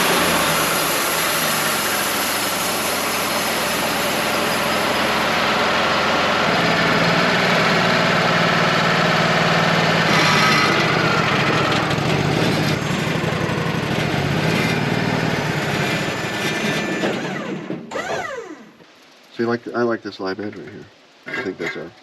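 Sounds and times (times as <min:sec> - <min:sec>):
sawmill running: 0:00.0 - 0:18.8.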